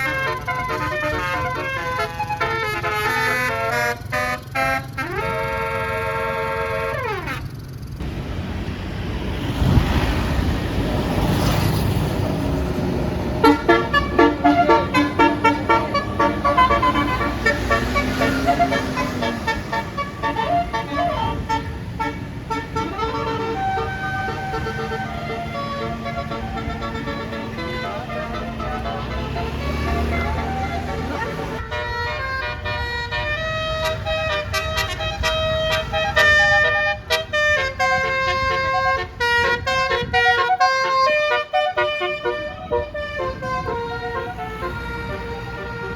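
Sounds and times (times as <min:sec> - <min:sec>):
multi-tone bus horn melody: 0:00.0 - 0:08.2, 0:11.1 - 0:45.9
bus engine and road noise: 0:00.0 - 0:45.9.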